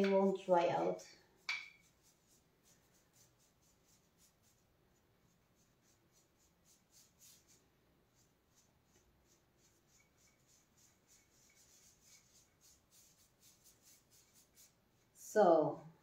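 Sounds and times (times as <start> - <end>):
paintbrush scratching: 0.0 - 15.2.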